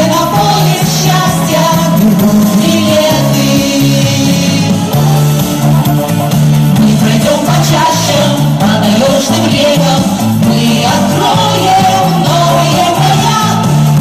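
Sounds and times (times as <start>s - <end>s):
women singing a pop song: 0.0s - 5.9s, 6.7s - 14.0s
amplified band accompaniment: 0.0s - 14.0s.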